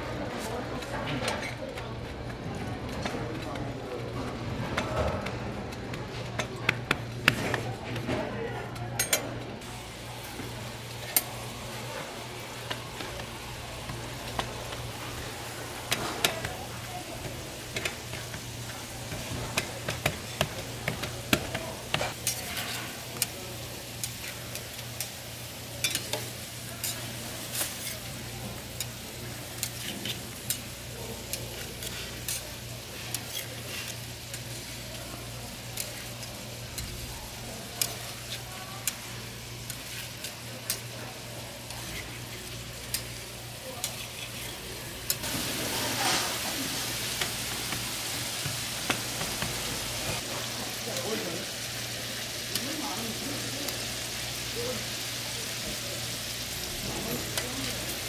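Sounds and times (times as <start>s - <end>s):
meat patties sizzling in oil: 9.6s - 58.0s.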